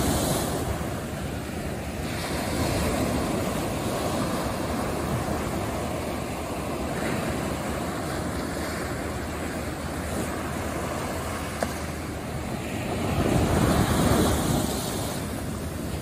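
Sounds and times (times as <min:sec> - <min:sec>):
ocean surf breaking on beach: 0:00.0 - 0:16.0.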